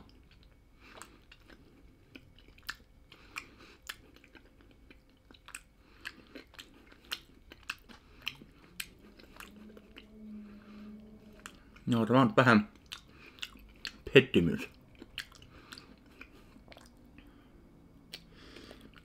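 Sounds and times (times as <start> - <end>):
soft mouth chewing: 0.0 - 11.9, 12.7 - 19.0.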